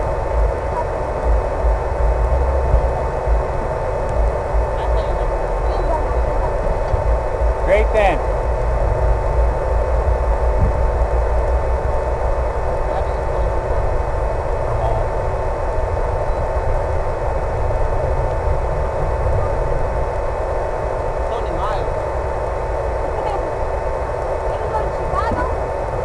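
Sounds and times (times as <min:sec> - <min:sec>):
electric motor whine: 0:00.0 - 0:26.0
rumbling wind noise: 0:00.0 - 0:26.0.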